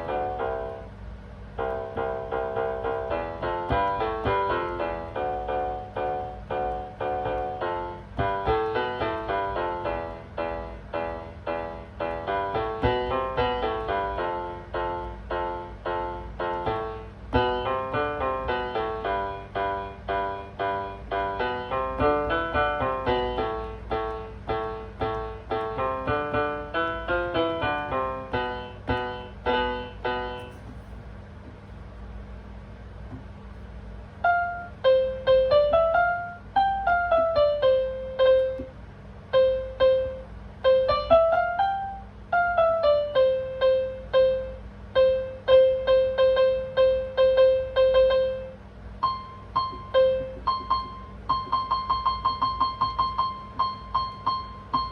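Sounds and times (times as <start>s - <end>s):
piano playing: 0.0s - 31.8s, 33.0s - 54.9s
faint steady hum: 0.0s - 54.9s.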